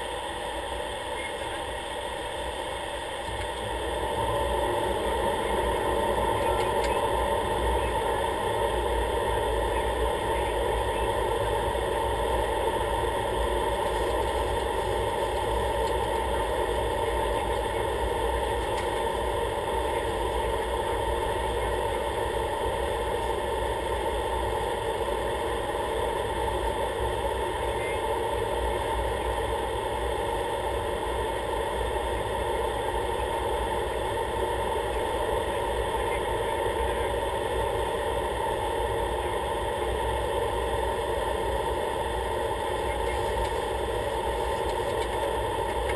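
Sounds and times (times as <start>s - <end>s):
light aircraft engine drone: 0.0s - 45.9s.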